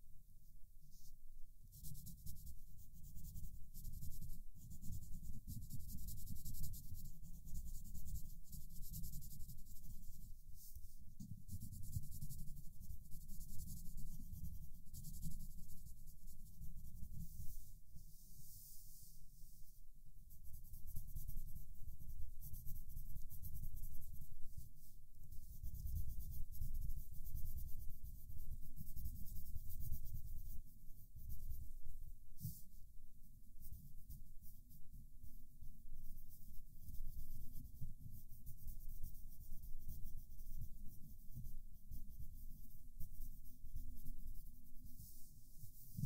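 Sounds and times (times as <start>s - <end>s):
pencil scratching on paper: 1.0s - 19.2s, 20.2s - 31.8s, 32.4s - 32.8s, 33.6s - 46.0s.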